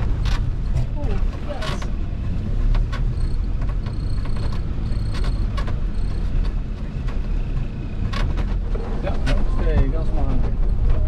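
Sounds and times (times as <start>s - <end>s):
car engine at low revs: 0.0s - 11.0s
knocks and rattles: 0.0s - 11.0s.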